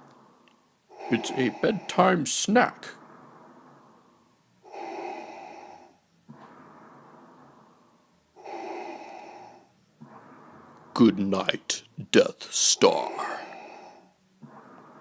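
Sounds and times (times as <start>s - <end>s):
mechanical respirator breathing: 0.0s - 15.0s.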